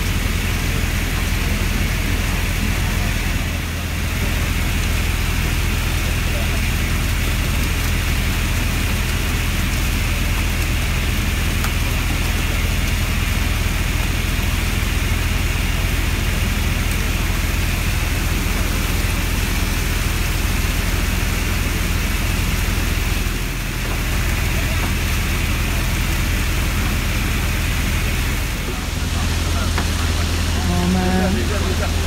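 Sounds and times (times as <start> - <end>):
boat engine humming: 0.0 - 32.0.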